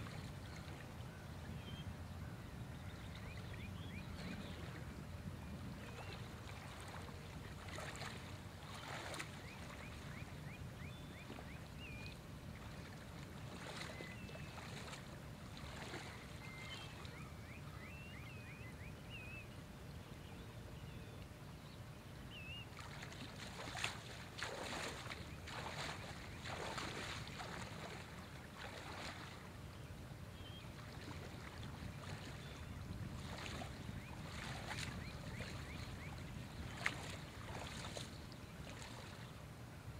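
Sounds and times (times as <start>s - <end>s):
soft water splashes: 0.0s - 19.4s, 20.9s - 39.9s.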